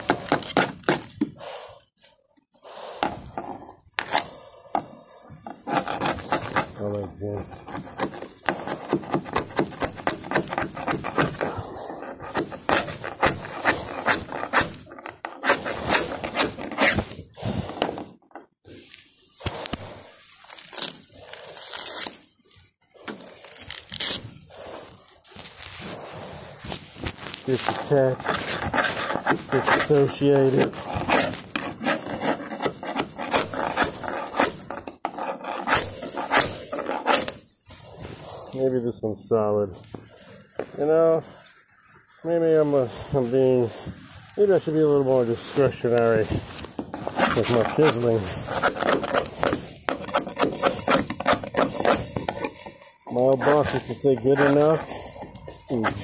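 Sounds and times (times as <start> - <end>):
chisel scraping fiberglass: 0.0 - 1.5, 3.0 - 19.8, 23.0 - 38.0, 44.3 - 56.0.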